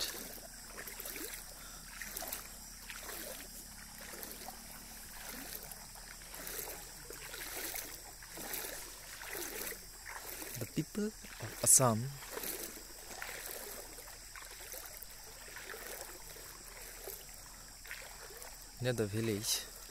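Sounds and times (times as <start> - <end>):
water sloshing and trickling: 0.0 - 19.9.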